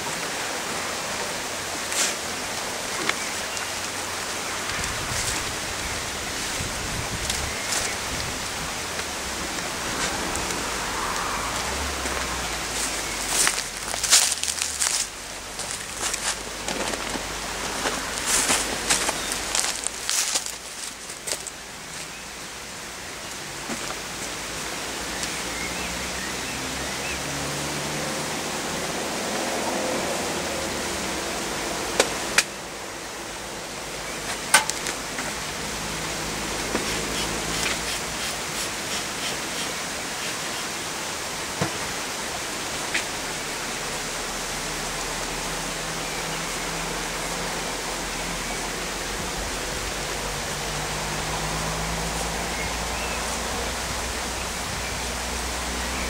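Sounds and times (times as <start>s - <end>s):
honeybees buzzing: 0.0s - 23.8s, 24.6s - 56.0s
steady hiss: 0.0s - 56.0s.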